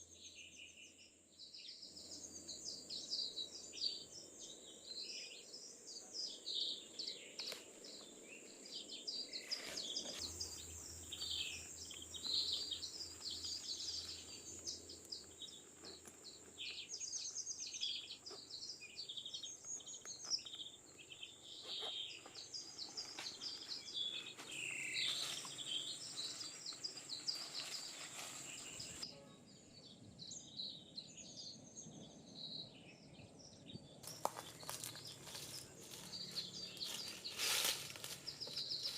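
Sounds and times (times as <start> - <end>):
birds chirping and calling: 2.0 - 29.0, 34.0 - 38.9.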